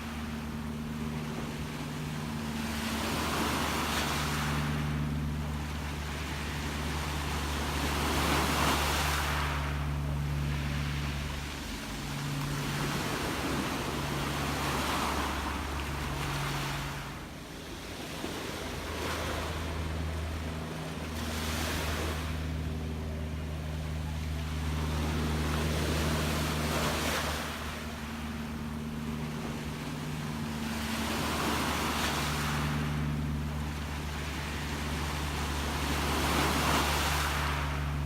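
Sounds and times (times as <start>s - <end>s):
gentle sea waves washing in: 0.0s - 38.0s
steady low hum: 0.0s - 38.0s.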